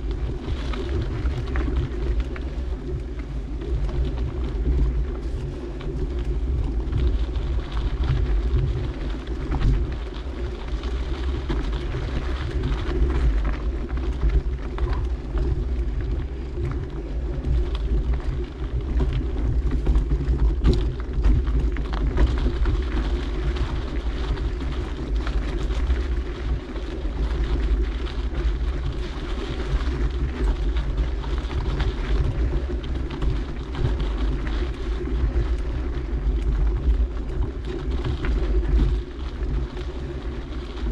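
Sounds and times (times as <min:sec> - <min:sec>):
bike tyre noise on dirt: 0:00.0 - 0:40.9
wind rumble on microphone: 0:00.0 - 0:40.9.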